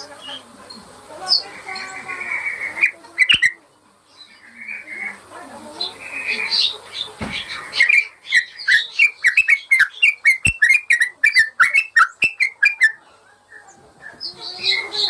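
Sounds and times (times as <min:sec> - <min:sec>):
bulbul chirping song: 0:00.0 - 0:05.2, 0:05.8 - 0:15.0.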